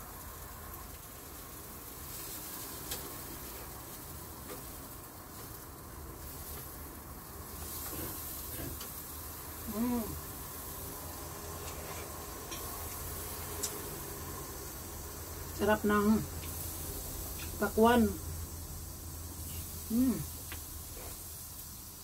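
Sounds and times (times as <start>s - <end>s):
food sizzling on electric grill: 0.0s - 22.0s.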